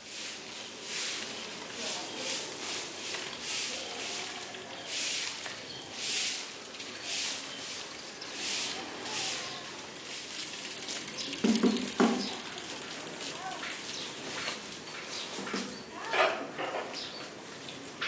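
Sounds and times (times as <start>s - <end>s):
bicycle wheel swishing: 0.0s - 15.4s.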